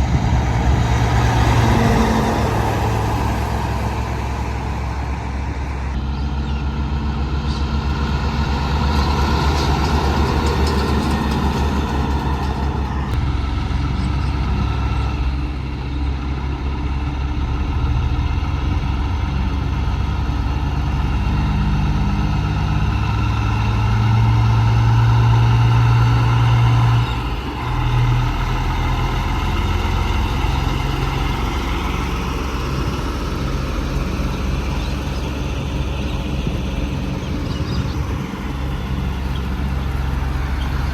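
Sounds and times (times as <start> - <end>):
heavy truck engines running: 0.0 - 40.9.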